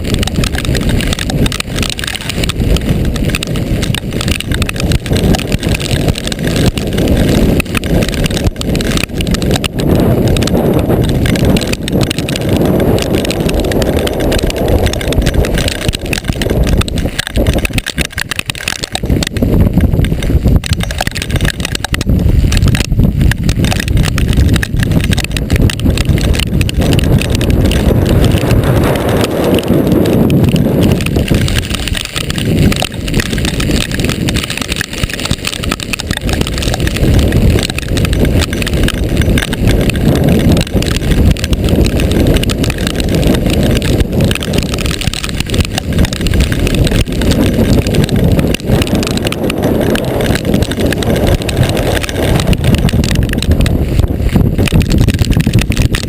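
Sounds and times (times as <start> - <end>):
gusty wind buffeting microphone: 0.0 - 56.0.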